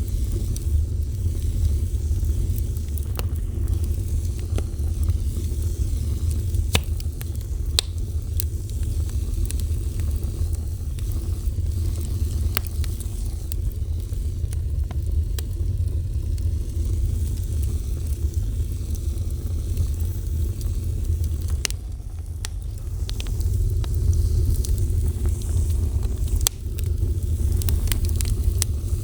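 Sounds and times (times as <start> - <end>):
fire burning with crackles: 0.0 - 29.0.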